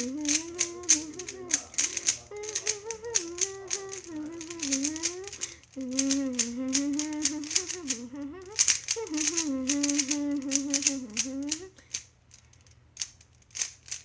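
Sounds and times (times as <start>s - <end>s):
person humming: 0.0s - 12.0s
speed cube clicking: 0.0s - 12.1s, 13.0s - 14.0s.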